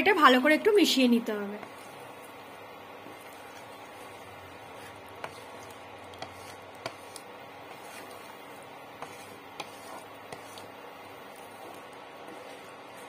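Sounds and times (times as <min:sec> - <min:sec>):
spatula stirring mash in a pan: 0:00.0 - 0:13.0.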